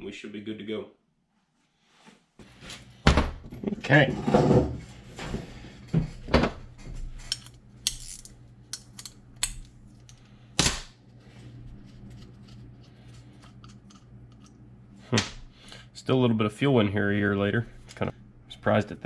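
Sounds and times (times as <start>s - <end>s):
faint steady hum: 2.4s - 19.0s.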